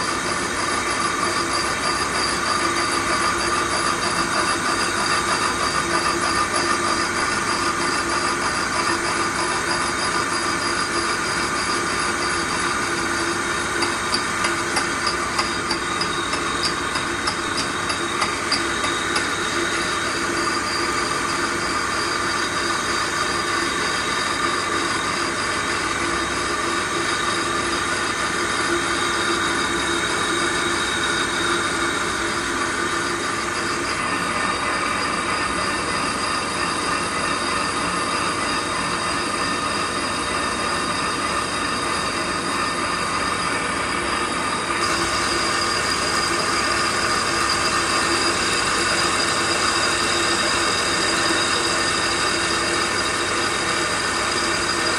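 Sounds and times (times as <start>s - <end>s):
metal lathe running: 0.0s - 54.9s.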